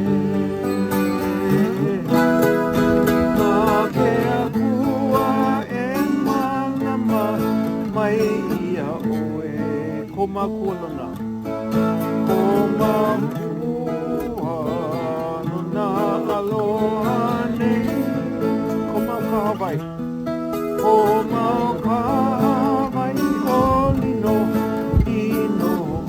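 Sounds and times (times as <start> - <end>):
acoustic guitar picked and strummed: 0.0 - 26.0.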